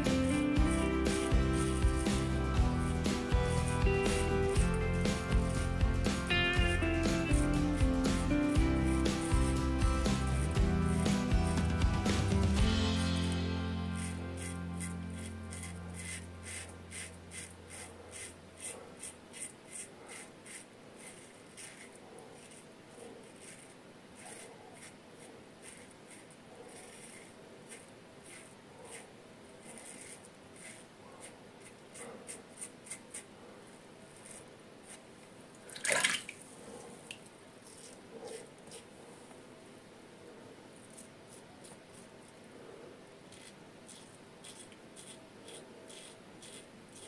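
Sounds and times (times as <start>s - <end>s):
razor scraping stubble: 0.0s - 33.3s, 37.6s - 38.9s, 40.8s - 42.4s, 43.3s - 47.0s.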